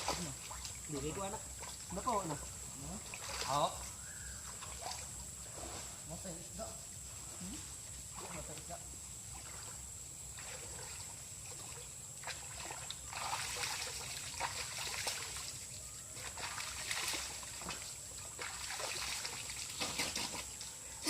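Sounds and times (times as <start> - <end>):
spring water trickling: 0.0 - 6.0, 8.0 - 21.0.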